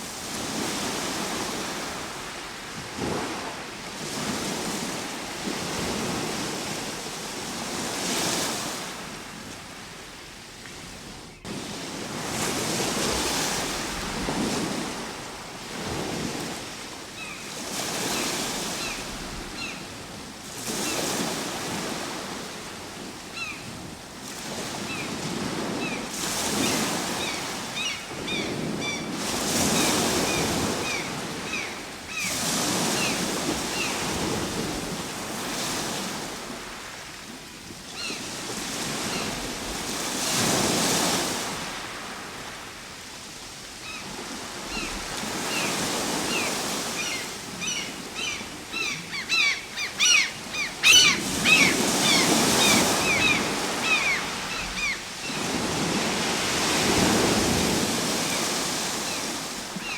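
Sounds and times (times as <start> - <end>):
ocean waves breaking: 0.0 - 10.0, 11.5 - 37.1, 38.0 - 59.9.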